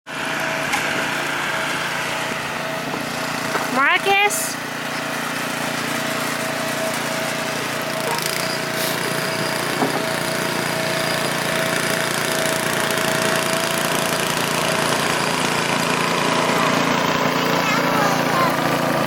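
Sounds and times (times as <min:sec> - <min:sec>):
small engine running: 0:00.1 - 0:19.0.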